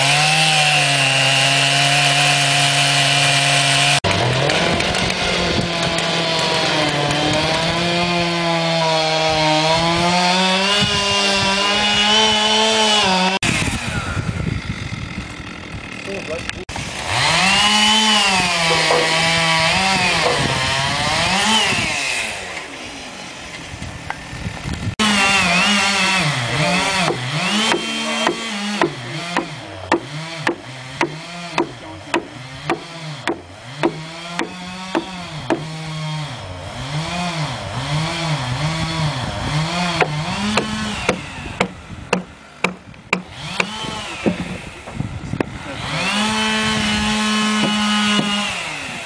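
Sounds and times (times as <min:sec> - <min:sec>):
chainsaw cutting log: 0:00.0 - 0:49.0.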